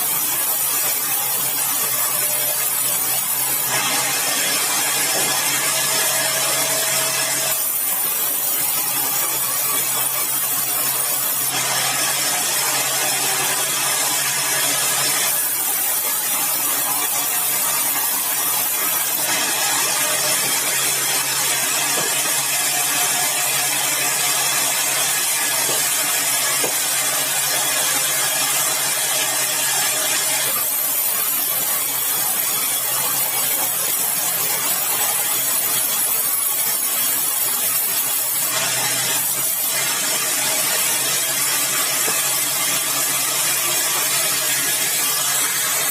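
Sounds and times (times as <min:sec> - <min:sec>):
saw cutting through log: 0:00.0 - 0:45.9.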